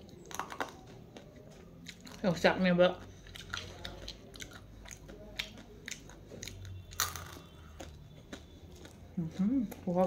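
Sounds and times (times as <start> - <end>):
crunchy chewing of food: 0.0 - 10.0.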